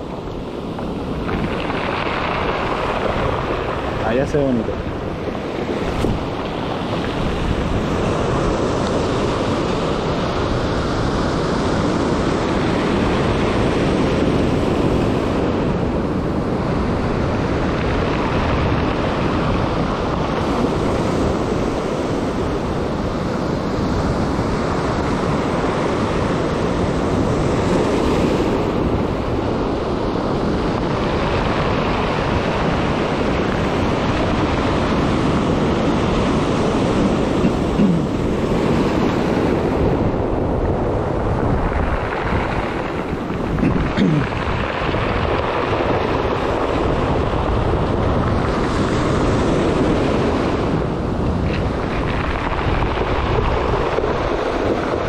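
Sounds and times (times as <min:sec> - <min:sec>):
surf breaking on stony beach: 0:00.0 - 0:55.0
wind noise on microphone: 0:00.0 - 0:55.0.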